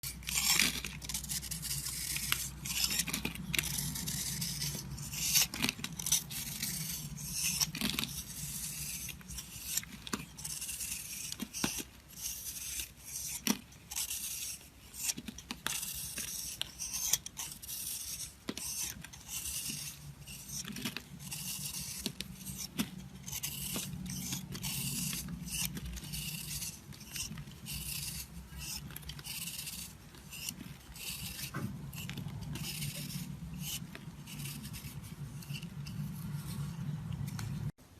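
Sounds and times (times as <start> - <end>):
knife scraping soap: 0.0 - 37.8.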